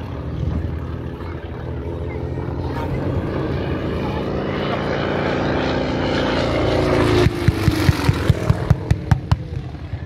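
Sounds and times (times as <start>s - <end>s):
piston aircraft engine: 0.0s - 10.0s.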